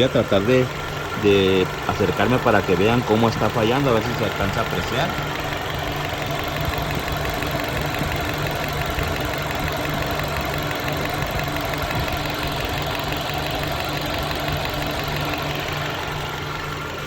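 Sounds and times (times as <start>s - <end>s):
car engine idling unevenly: 0.0s - 17.0s.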